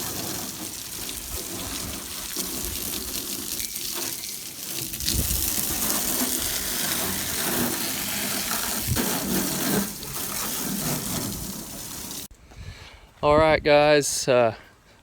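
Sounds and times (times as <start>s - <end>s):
water spraying onto metal hull: 0.0s - 12.3s.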